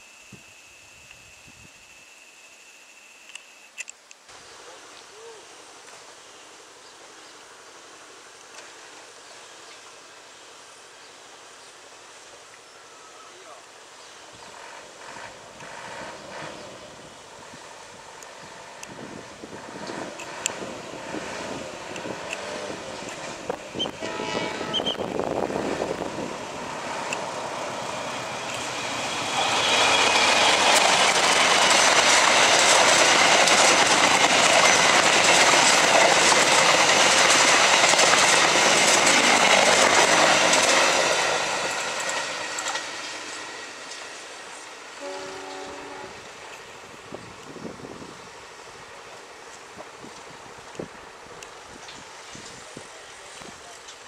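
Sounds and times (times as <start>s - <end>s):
background hiss: 0.0s - 54.0s
train rail noise: 3.3s - 54.0s
diesel locomotive engine: 4.4s - 54.0s.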